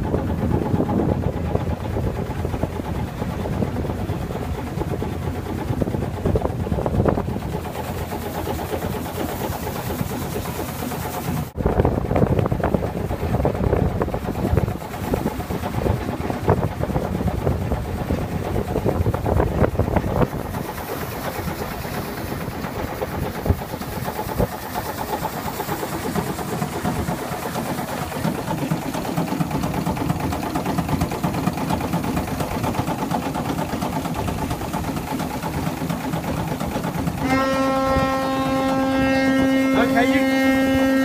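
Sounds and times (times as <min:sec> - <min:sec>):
boat engine running: 0:00.0 - 0:41.0
wind buffeting microphone: 0:00.0 - 0:41.0.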